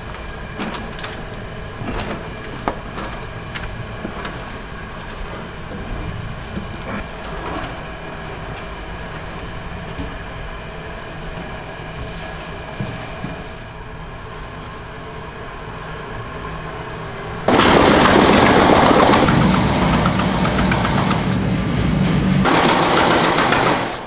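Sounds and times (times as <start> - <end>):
mechanical hum with low rumble: 0.0 - 24.0.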